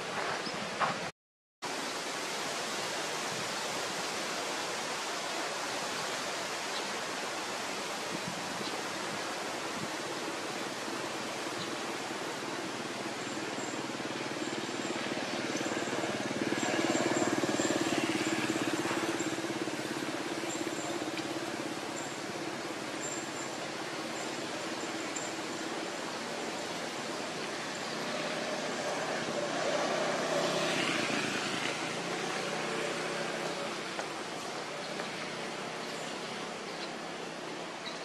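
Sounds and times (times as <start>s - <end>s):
outdoor background hiss: 0.0s - 38.0s.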